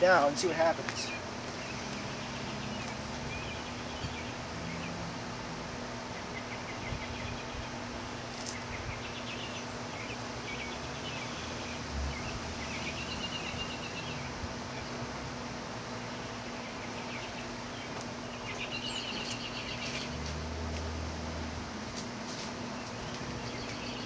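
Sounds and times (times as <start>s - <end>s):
birds chirping: 0.0s - 5.1s, 6.0s - 15.2s, 15.9s - 20.4s, 22.5s - 24.0s.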